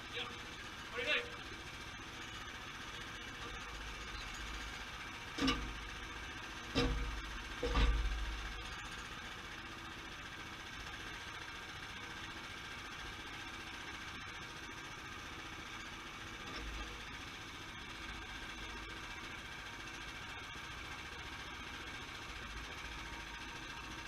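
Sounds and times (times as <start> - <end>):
sawmill engine running: 0.0 - 24.0.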